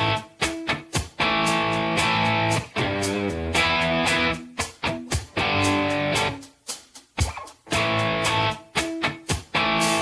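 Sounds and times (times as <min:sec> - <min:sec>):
guitar chords plucked and strummed: 0:00.0 - 0:10.0.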